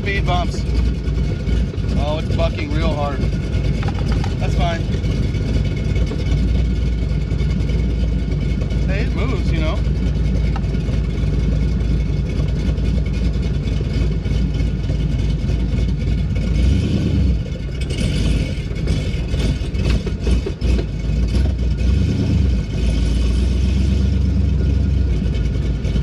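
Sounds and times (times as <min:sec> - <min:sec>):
clattering and rattling: 0:00.0 - 0:21.9
car engine running: 0:00.0 - 0:26.0.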